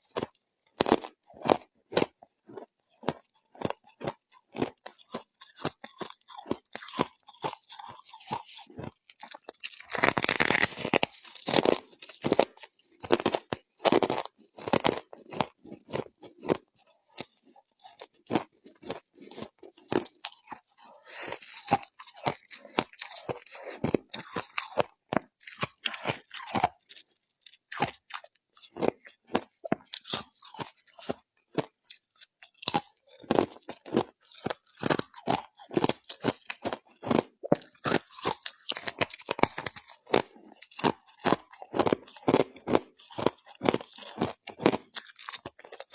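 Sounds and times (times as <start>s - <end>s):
crunching and chewing ice: 0.0s - 45.9s.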